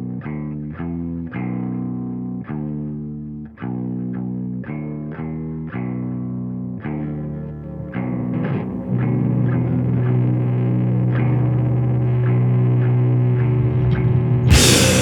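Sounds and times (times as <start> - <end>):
distorted guitar and bass riff: 0.0 - 15.0.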